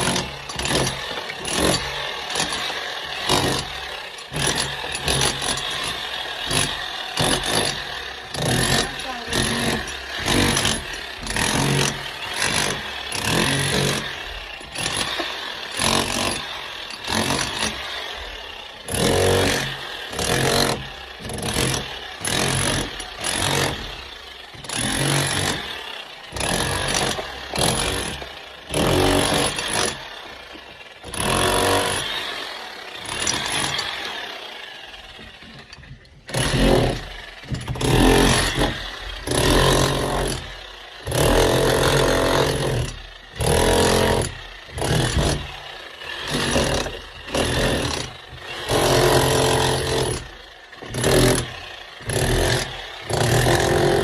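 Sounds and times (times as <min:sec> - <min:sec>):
electric hammer chiselling: 0:00.0 - 0:54.0.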